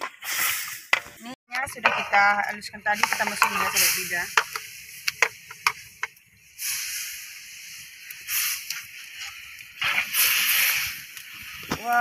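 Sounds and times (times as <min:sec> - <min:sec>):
wok hissing: 0:00.0 - 0:12.0.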